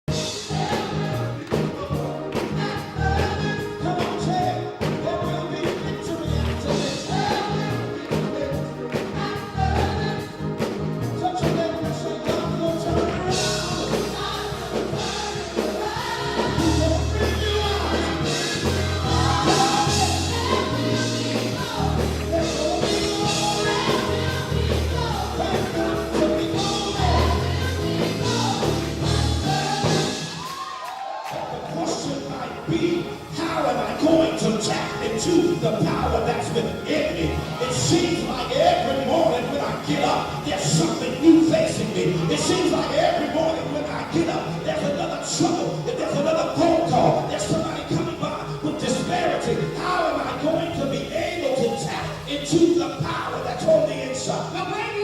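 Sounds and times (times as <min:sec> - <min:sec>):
gospel singing with band: 0:00.1 - 0:55.0.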